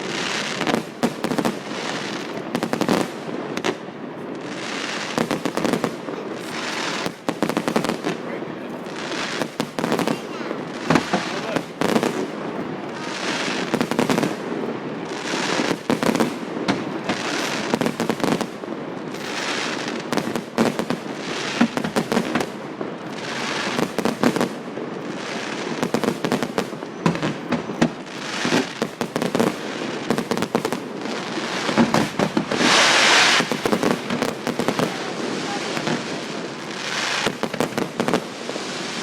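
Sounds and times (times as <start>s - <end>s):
fireworks crackling: 0.0s - 39.0s.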